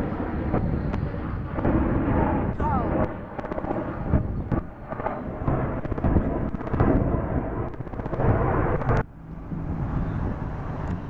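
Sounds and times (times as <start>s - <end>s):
jet engine roar: 0.0s - 11.0s
wind buffeting on microphone: 0.0s - 11.0s.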